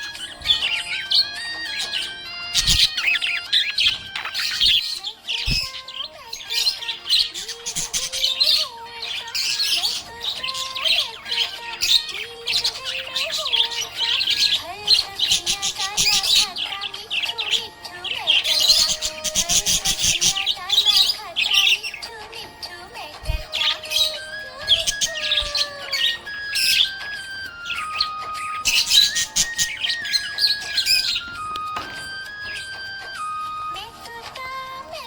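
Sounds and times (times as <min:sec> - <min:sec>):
budgie chirping: 0:00.0 - 0:33.8.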